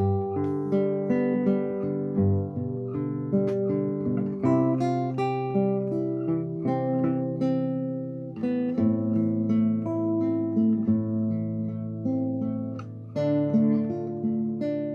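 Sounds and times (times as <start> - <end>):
classical guitar fingerstyle: 0.0 - 14.9.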